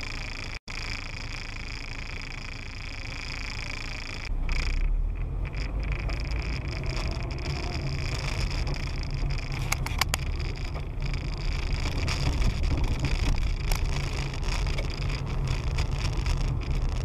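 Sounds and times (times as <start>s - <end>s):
car engine rumble: 0.0s - 17.0s
road noise: 0.0s - 17.0s
sharp clicks: 0.0s - 17.0s.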